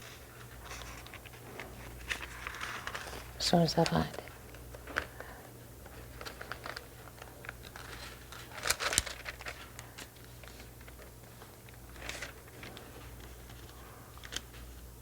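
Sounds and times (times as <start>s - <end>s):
low electrical hum: 0.0s - 15.0s
thin pages turning and rustling: 0.3s - 5.2s, 5.8s - 14.8s.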